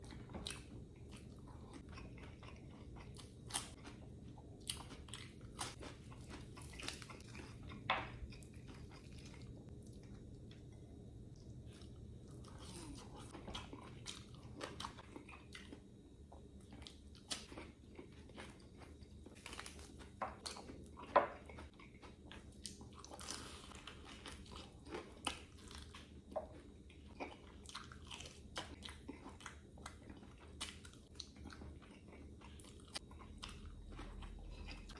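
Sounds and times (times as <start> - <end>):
person crunching and chewing: 0.0 - 10.7, 11.4 - 15.9, 16.6 - 34.9.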